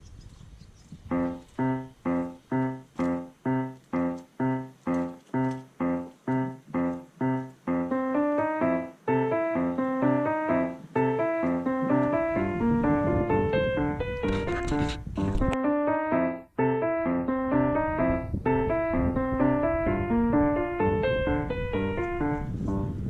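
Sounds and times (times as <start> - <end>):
piano-like keyboard music: 1.1 - 23.0.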